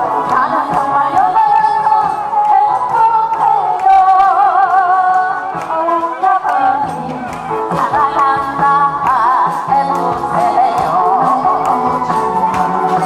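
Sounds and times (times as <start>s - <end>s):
amplified backing music: 0.0s - 13.0s
woman singing into a microphone: 0.0s - 13.0s.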